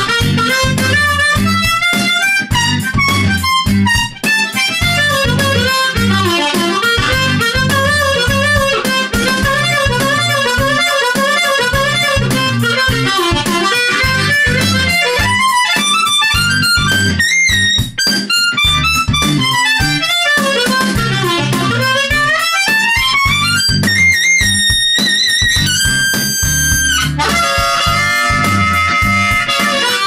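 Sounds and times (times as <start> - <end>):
backing track music: 0.0 - 30.0
harmonica melody: 0.0 - 30.0.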